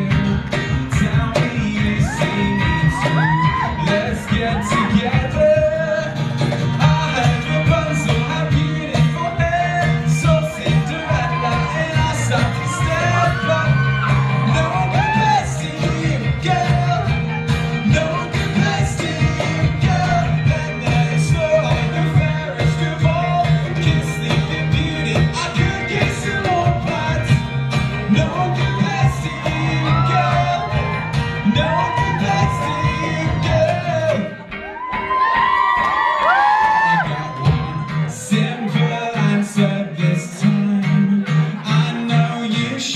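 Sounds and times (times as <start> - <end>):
live pop band playing: 0.0 - 42.9
person singing: 0.0 - 42.9.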